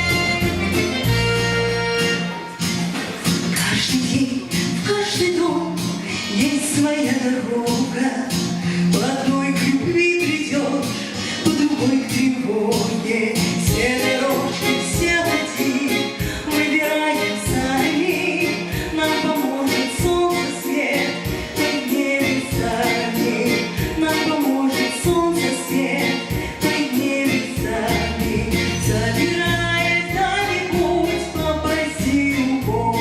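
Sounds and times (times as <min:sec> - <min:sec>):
music with steady beat: 0:00.0 - 0:33.0
woman singing: 0:03.5 - 0:33.0.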